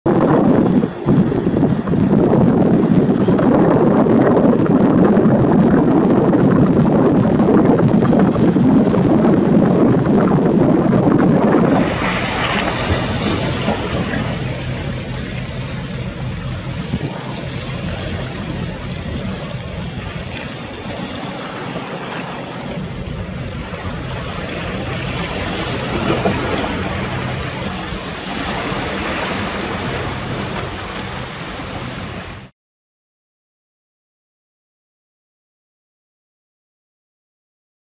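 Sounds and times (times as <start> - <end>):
surf: 0.1 - 32.5
wind buffeting microphone: 0.1 - 32.5.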